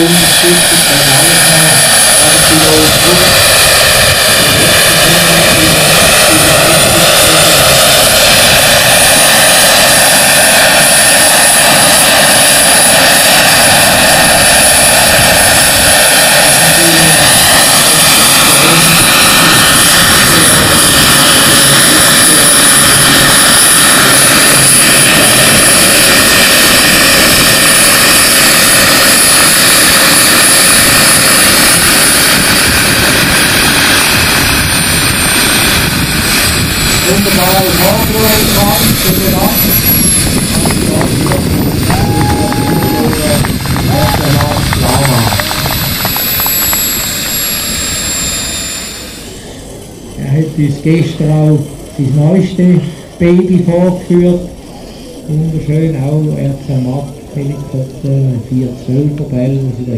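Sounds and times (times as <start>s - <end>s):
helicopter rotors whirring: 0.0s - 59.9s
turbine high whine: 0.0s - 59.9s.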